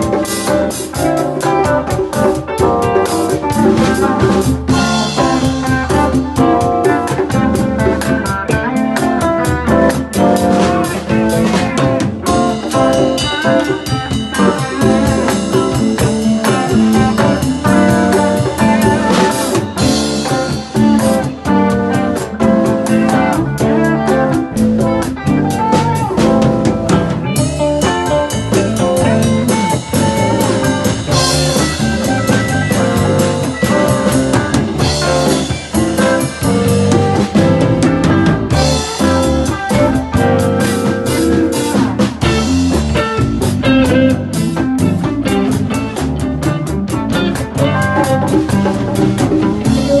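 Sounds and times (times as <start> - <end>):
busy drumming: 0.0 - 50.0.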